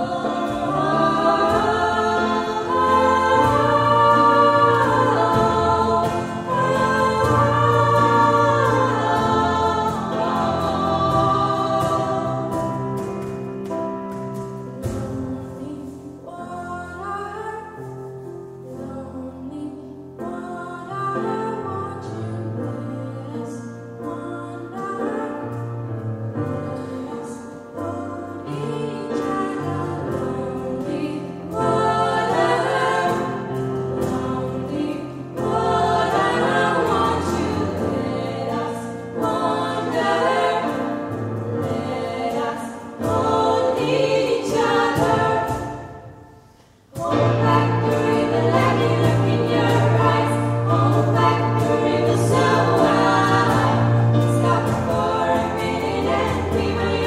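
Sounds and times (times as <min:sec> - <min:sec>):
women singing in harmony: 0:00.0 - 0:13.4, 0:14.7 - 0:18.0, 0:18.6 - 0:25.6, 0:26.3 - 0:57.0.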